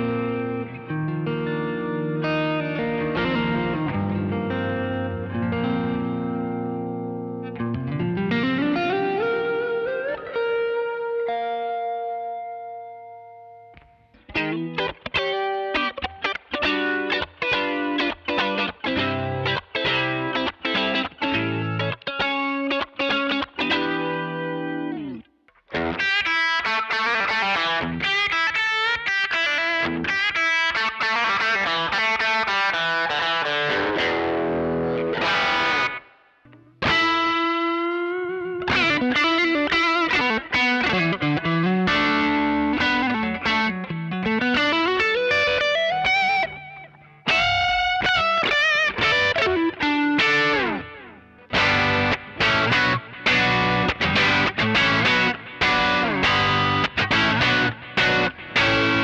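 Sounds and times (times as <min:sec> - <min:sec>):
overdriven electric guitar lead: 0:00.0 - 0:59.0.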